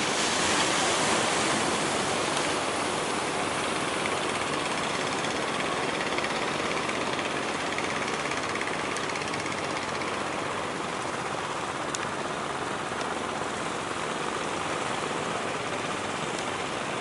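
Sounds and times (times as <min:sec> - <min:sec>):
sea and surf wash: 0:00.0 - 0:17.0
boat engine knocking: 0:01.6 - 0:17.0.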